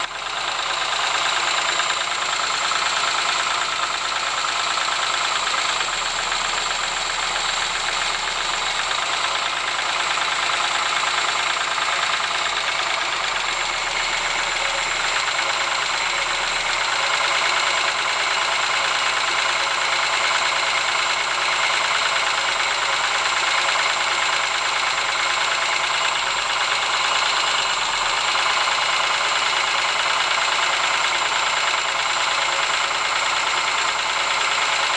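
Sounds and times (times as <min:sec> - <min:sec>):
car engine knocking: 0:00.0 - 0:34.9.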